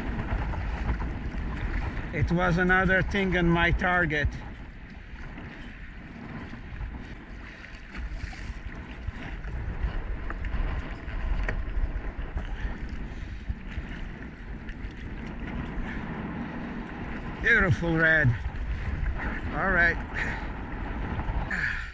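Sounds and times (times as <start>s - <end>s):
water lapping around kayak: 0.0s - 21.9s
wind noise on microphone: 0.0s - 21.9s.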